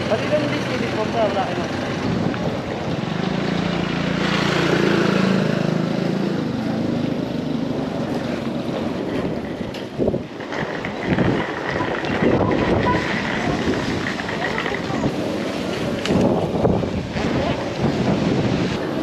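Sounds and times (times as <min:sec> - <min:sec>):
suitcase wheels rolling on concrete: 0:00.0 - 0:19.0.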